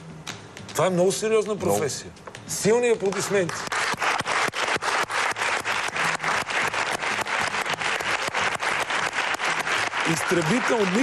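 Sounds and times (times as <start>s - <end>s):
rhythmic applause: 0.6s - 11.0s.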